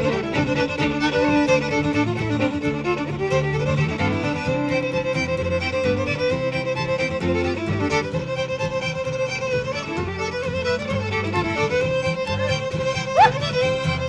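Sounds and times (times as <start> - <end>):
acoustic guitar: 0.0 - 14.0
fiddles playing a folk tune: 0.0 - 14.0.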